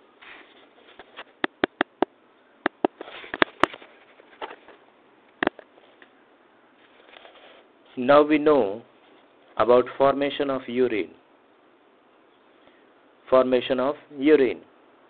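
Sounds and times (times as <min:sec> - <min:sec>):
faint hiss: 0:00.0 - 0:15.0.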